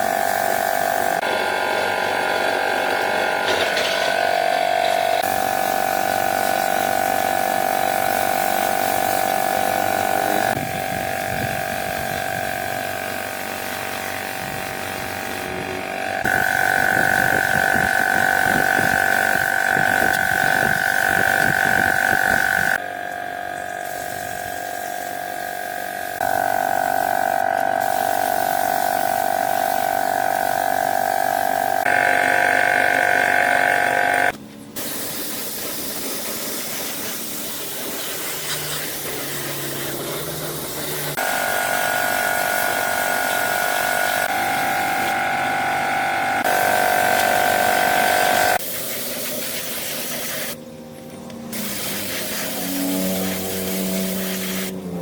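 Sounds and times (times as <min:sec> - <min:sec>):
power tool motor whining: 0:00.0 - 0:34.4, 0:38.3 - 0:48.6.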